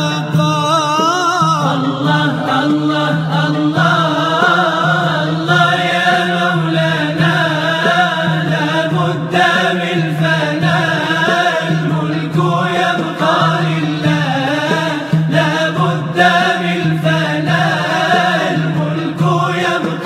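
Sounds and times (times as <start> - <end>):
person singing devotional melody: 0.0 - 20.0.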